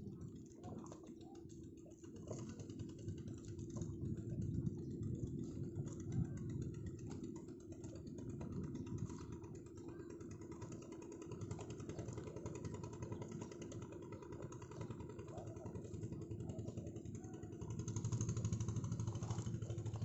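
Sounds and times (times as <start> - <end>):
boat engine chugging: 0.0 - 20.0.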